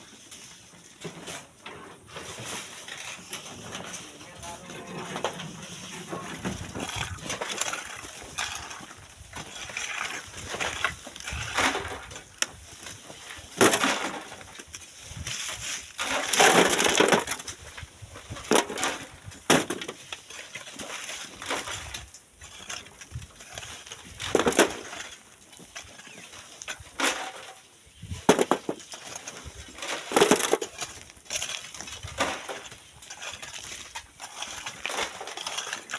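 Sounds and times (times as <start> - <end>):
shovels digging sand and stones: 0.0 - 35.9.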